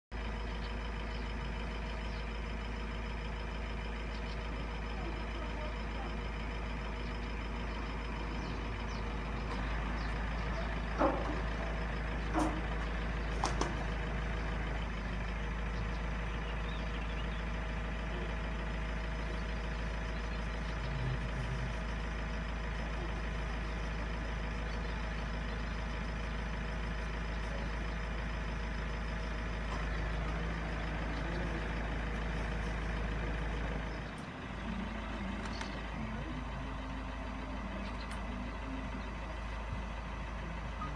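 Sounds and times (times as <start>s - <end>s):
engine-like hum: 0.0s - 40.9s.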